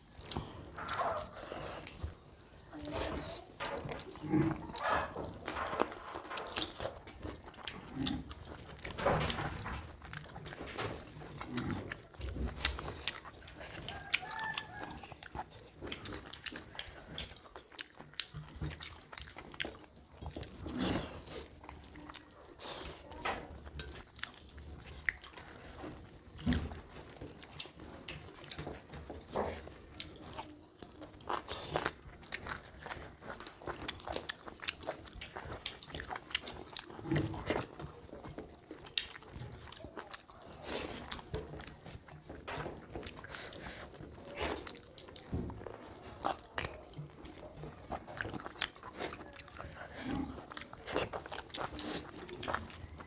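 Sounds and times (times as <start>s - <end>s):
people chewing food: 0.0s - 53.0s.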